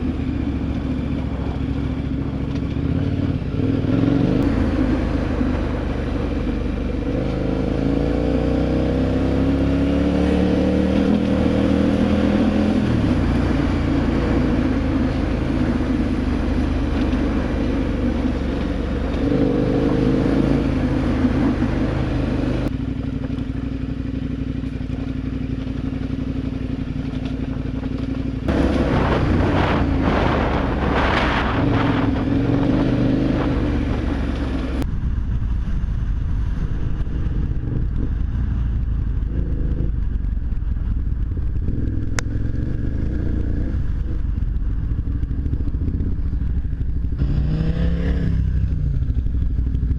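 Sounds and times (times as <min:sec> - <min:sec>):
motorcycle engine accelerating: 0:00.0 - 0:49.9
wind and road noise: 0:00.0 - 0:49.9.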